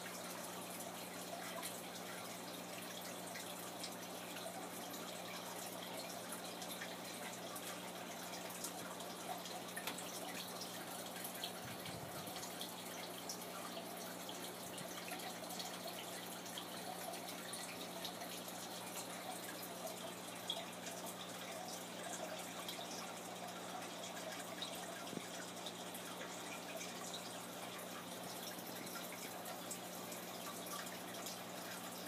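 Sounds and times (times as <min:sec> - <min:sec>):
water trickling and dripping: 0:00.0 - 0:32.0.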